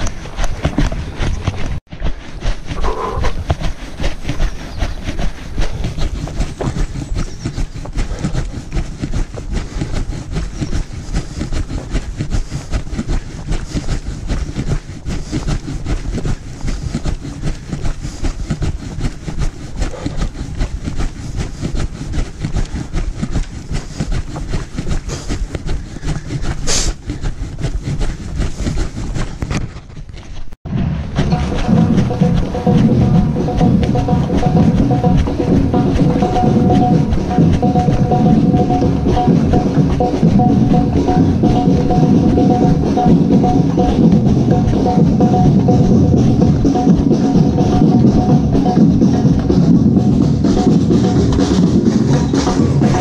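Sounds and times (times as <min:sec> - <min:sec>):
camera rumble and rustle: 0:00.0 - 0:53.0
running footfalls on dirt trail: 0:00.0 - 0:53.0.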